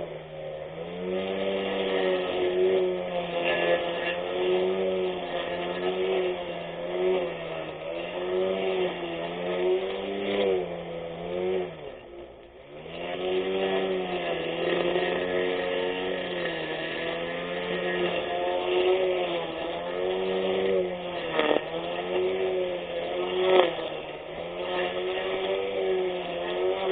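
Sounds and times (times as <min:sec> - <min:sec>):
electric grass cutter motor hum: 0:00.0 - 0:26.9.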